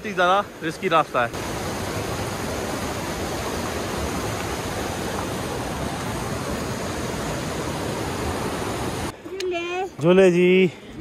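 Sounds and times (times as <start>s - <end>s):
mountain stream rushing: 0.0s - 9.2s.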